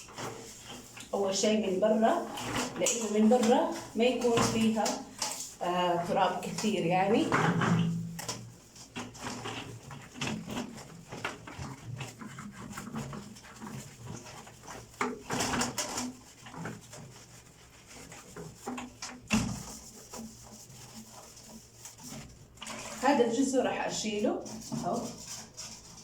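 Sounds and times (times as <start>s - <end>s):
sponge scrubbing plastic drum: 0.0s - 26.0s.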